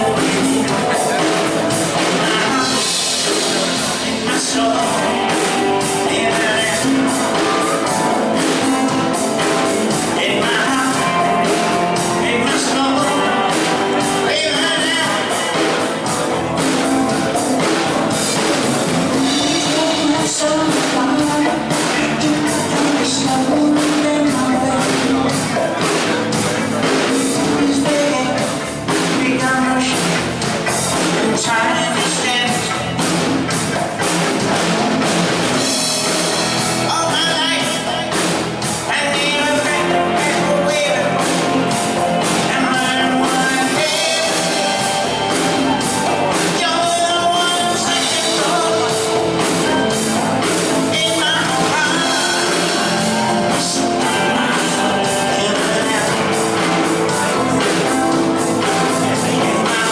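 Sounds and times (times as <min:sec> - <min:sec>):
person singing: 0:00.0 - 0:33.2, 0:34.5 - 0:59.9
drum kit beat: 0:00.0 - 0:59.9
guitars: 0:00.0 - 0:59.9.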